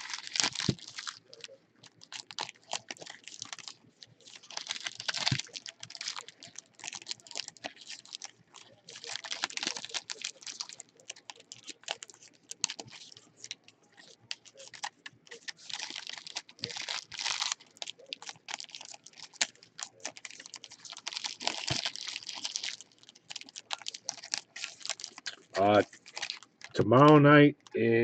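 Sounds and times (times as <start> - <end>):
wrapper crinkling and tearing: 0.0 - 26.8.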